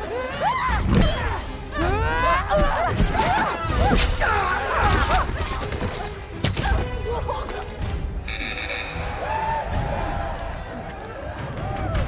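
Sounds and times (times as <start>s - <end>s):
people screaming and yelling: 0.0s - 7.7s, 8.8s - 12.0s.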